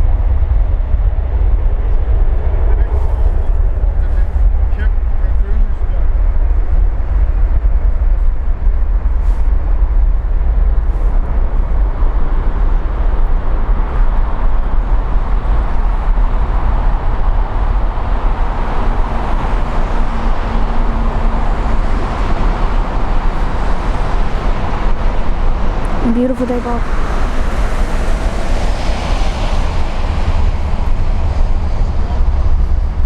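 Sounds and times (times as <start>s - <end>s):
jet engine rumble: 0.0s - 33.0s.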